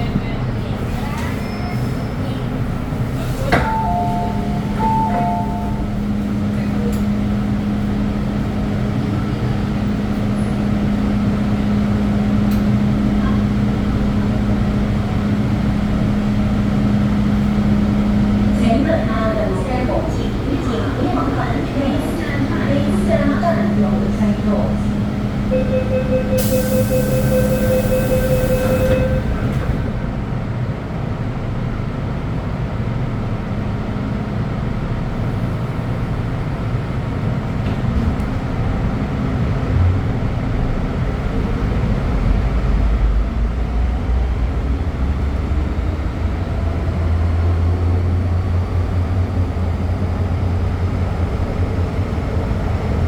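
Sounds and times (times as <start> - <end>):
train running rumble: 0.0 - 53.0.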